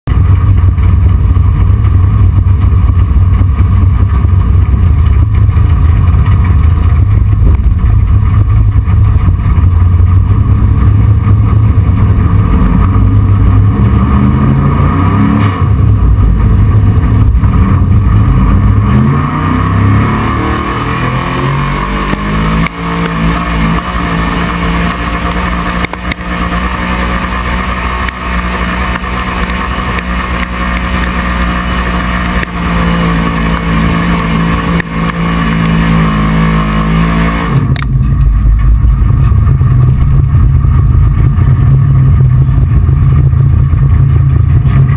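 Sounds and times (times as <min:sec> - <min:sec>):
tractor engine at full throttle: 0:00.0 - 0:44.9.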